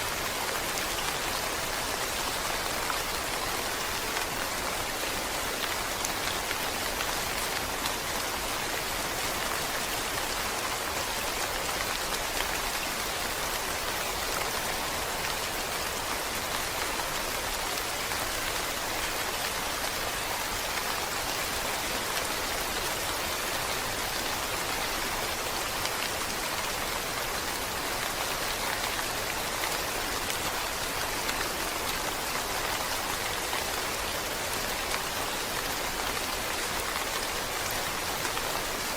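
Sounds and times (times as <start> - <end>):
rain pattering on surface: 0.0 - 38.9.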